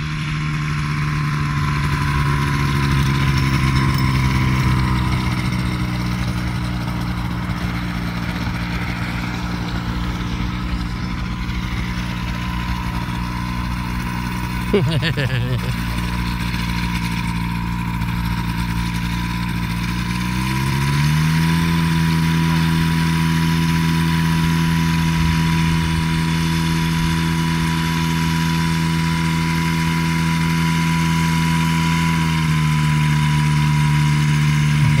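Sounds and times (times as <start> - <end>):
ultralight propeller engine running: 0.0 - 35.0.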